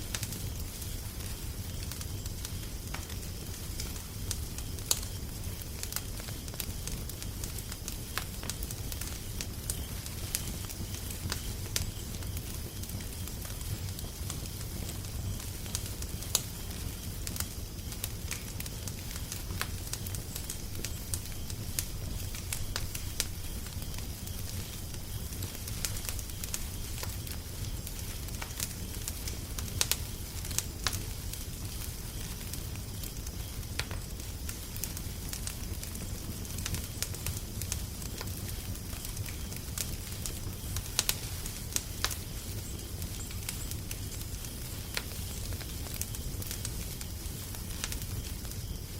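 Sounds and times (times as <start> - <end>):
low rumbling hiss: 0.0 - 48.9
wood fire crackling and popping: 0.0 - 48.9.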